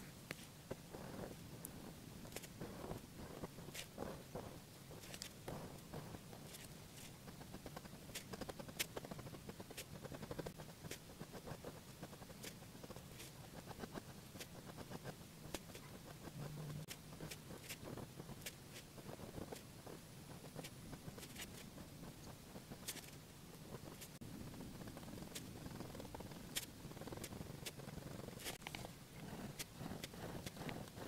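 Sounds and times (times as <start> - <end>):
low steady hum: 0.0 - 31.0
pen nib scratching paper: 0.4 - 31.0.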